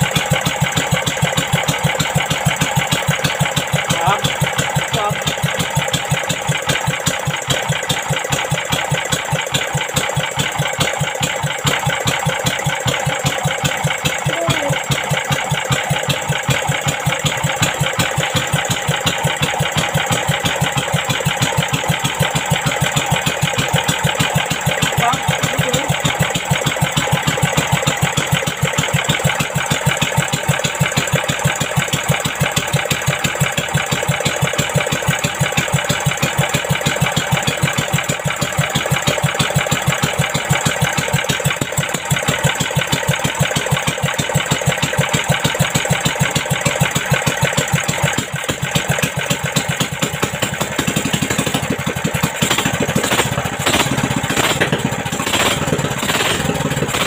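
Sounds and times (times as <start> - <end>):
boat engine idling: 0.0 - 57.0.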